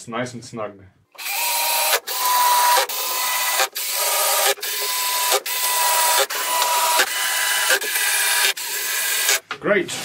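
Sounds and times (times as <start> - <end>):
cordless drill driving screws: 1.2 - 9.4.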